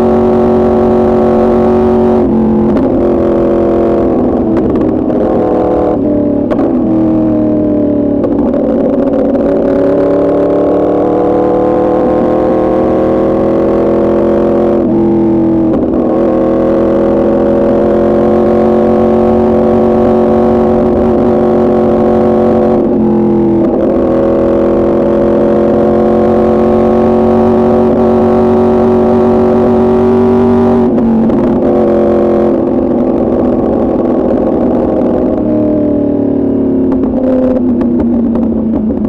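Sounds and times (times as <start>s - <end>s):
motorcycle accelerating with upshifts: 0.0s - 39.0s.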